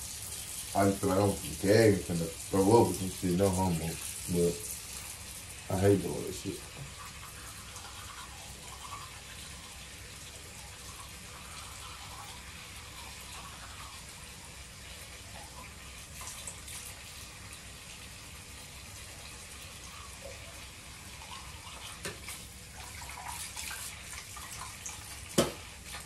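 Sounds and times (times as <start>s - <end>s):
sink tap running: 0.0s - 26.0s.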